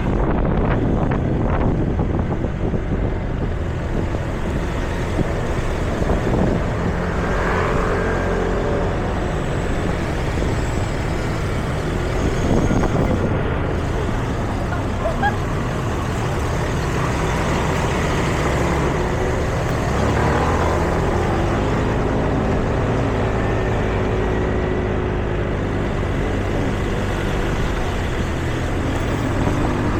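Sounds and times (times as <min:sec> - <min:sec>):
road traffic engine hum: 0:00.0 - 0:29.9
vehicle passing loudly: 0:03.9 - 0:29.9.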